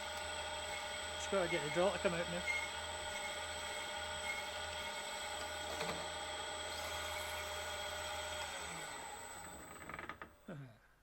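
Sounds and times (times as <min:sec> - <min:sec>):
milling machine whining hum: 0:00.0 - 0:09.6.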